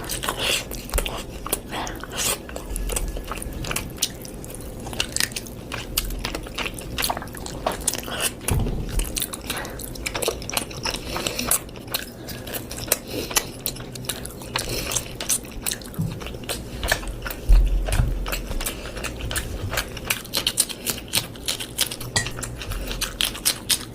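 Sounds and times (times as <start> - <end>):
person chewing food: 0.0 - 23.9.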